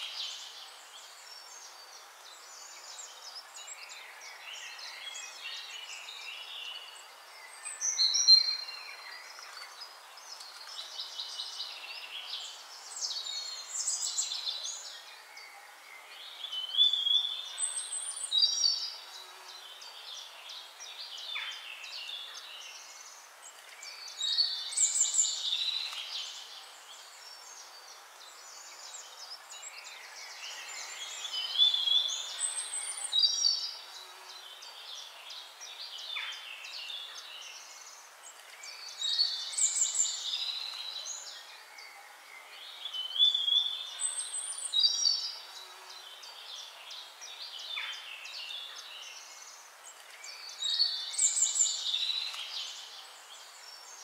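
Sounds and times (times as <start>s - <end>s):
birds chirping and singing: 0.0s - 54.0s
steady hiss: 0.0s - 54.0s.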